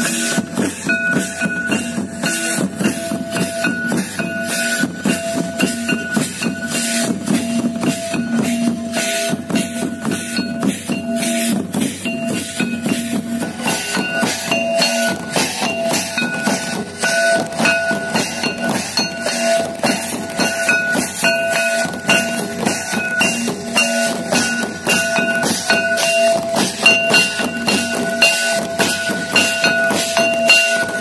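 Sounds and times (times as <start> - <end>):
drums beating fast: 0.0 - 31.0
hand cymbals clashing: 0.0 - 31.0.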